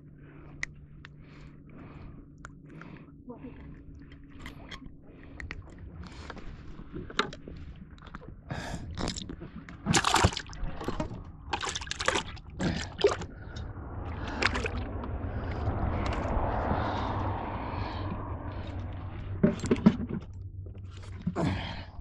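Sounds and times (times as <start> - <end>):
water splashing and sloshing: 0.2 - 22.0.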